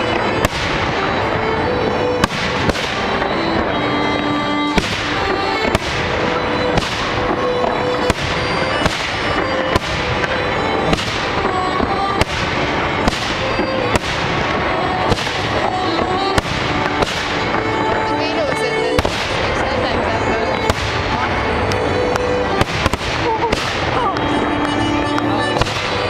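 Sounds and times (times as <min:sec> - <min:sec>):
firework crackle: 0:00.0 - 0:26.0
music playing: 0:00.0 - 0:26.0.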